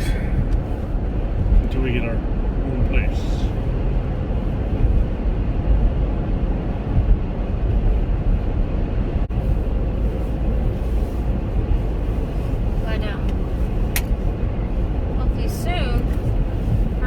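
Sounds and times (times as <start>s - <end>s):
in-cabin road and engine rumble: 0.0s - 17.0s.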